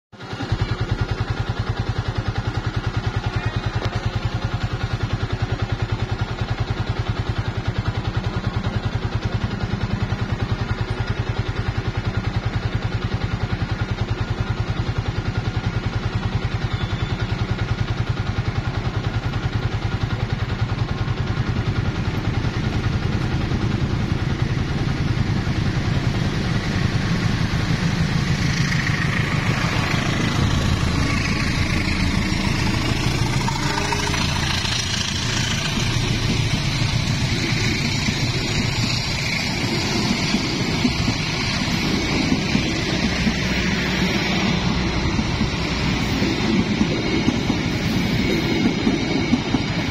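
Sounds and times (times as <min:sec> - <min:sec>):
train approaching: 0:00.1 - 0:49.9
vehicle engine running: 0:00.1 - 0:49.9.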